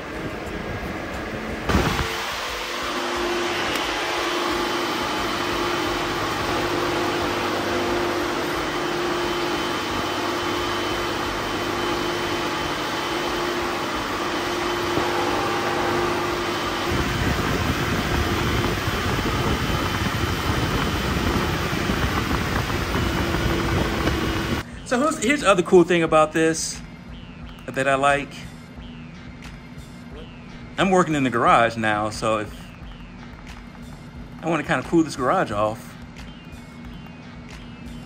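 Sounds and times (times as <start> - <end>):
electric fans rushing air: 0.0 - 38.0.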